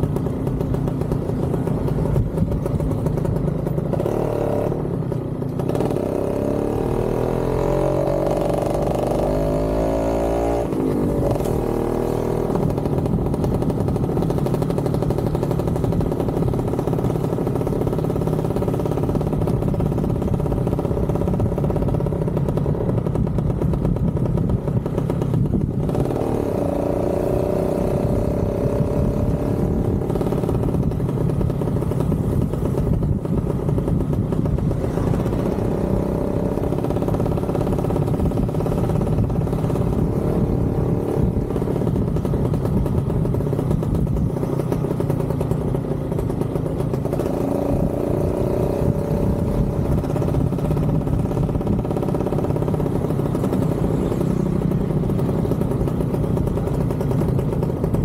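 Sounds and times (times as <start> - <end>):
wind noise on microphone: 0.0 - 5.0, 5.6 - 58.0
motorcycle engine running: 0.0 - 58.0.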